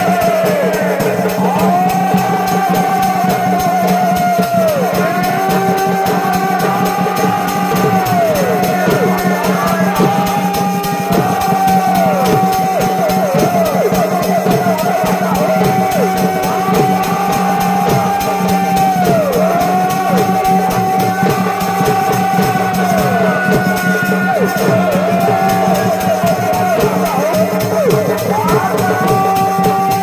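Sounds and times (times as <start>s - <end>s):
bending melody line: 0.0s - 30.0s
steady drumming: 0.0s - 30.0s.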